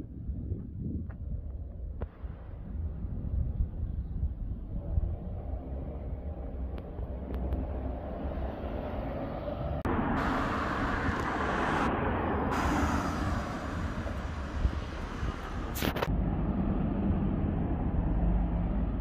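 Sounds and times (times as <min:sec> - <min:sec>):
road traffic noise: 0:01.3 - 0:19.0.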